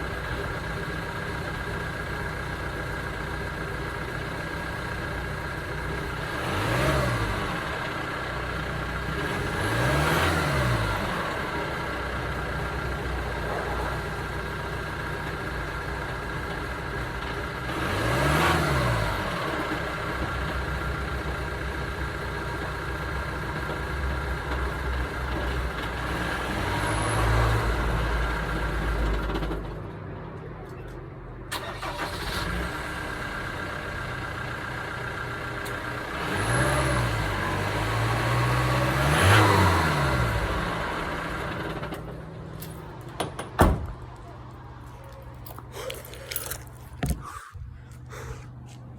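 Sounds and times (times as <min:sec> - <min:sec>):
diesel van engine revving: 0:00.0 - 0:30.0, 0:31.4 - 0:43.2.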